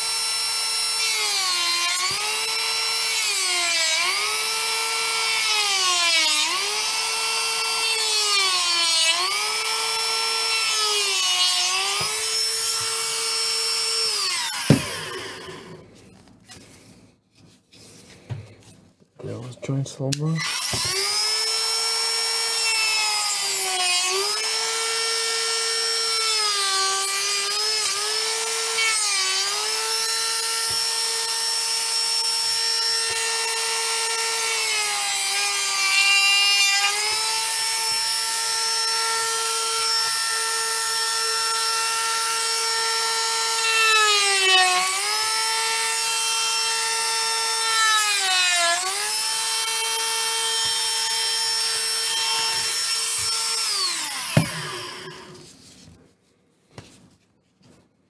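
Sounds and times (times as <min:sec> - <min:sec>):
rotary tool whining: 0:00.0 - 0:16.7, 0:20.4 - 0:55.8.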